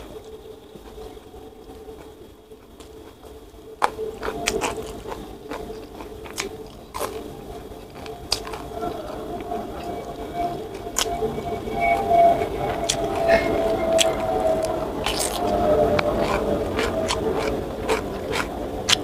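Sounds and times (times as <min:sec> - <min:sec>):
crunching and smacking bites: 0:00.0 - 0:19.0
person chewing food: 0:00.0 - 0:19.0
steady low hum: 0:00.0 - 0:19.0.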